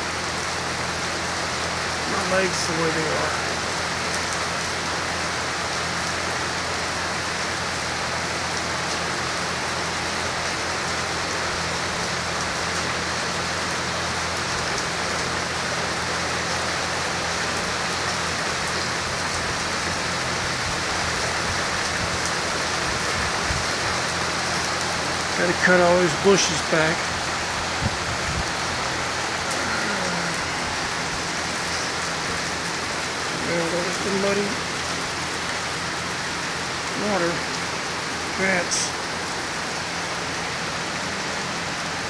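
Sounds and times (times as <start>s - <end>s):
rain falling on pavement and bushes: 0.0s - 42.0s.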